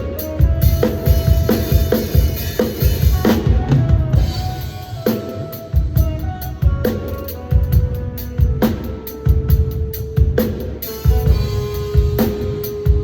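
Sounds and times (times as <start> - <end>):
drum kit groove: 0.0 - 13.0.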